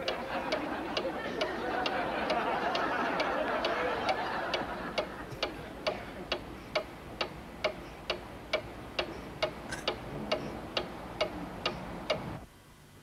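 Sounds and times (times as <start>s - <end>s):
clock ticking: 0.0s - 12.4s.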